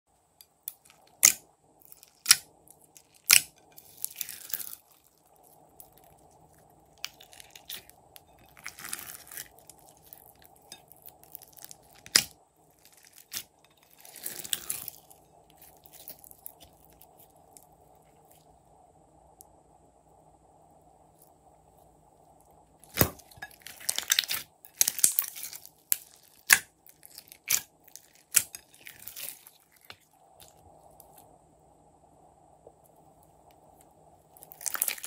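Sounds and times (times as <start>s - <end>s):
crackly crunchy slime noise: 0.1s - 31.4s, 32.6s - 35.0s.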